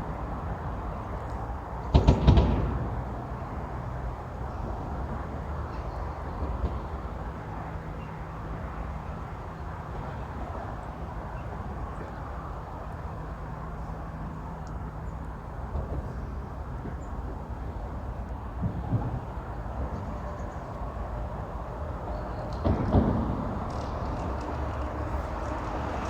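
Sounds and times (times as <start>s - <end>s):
faint hum of passing vehicles: 0.0s - 26.0s
rumble of road traffic: 0.0s - 26.0s.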